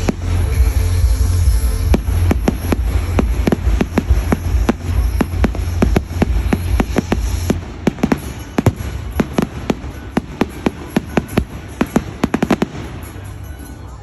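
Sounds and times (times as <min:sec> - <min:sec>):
fireworks bangs and crackles: 0:00.0 - 0:13.8.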